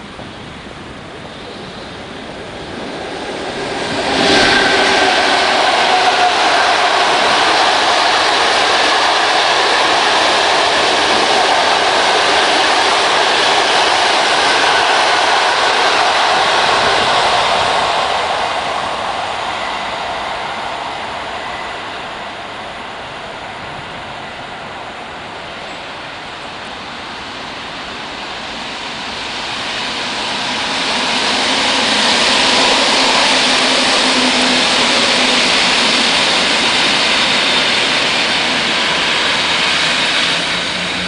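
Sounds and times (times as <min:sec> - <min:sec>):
electric train passing on tracks: 0:00.0 - 0:41.0.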